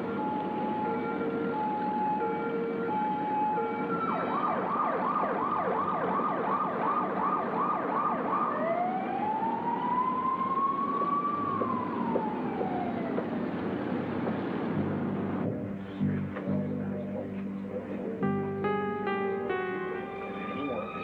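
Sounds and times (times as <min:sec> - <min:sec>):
ambulance siren: 0:00.0 - 0:14.2, 0:17.8 - 0:21.0
traffic noise: 0:00.0 - 0:21.0.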